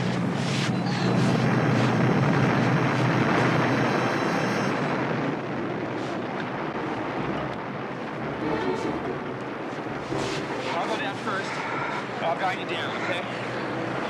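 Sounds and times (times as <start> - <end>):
avalanche rumbling: 0.0 - 14.0.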